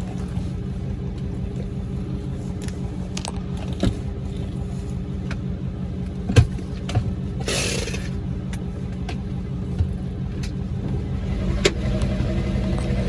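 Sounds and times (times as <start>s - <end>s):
car engine running: 0.0s - 13.0s
road hum: 0.0s - 13.0s.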